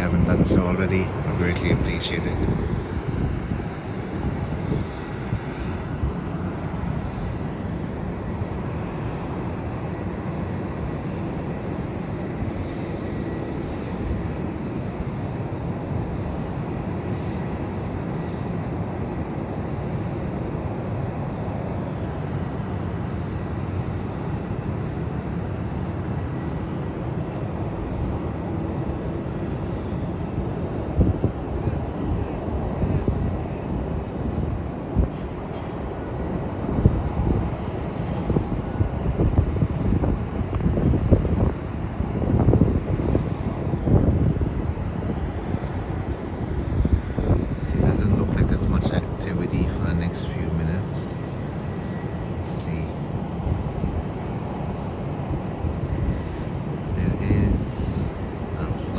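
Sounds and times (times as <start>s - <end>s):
faint high whine: 0.0s - 58.9s
jet engines rumbling: 0.0s - 58.9s.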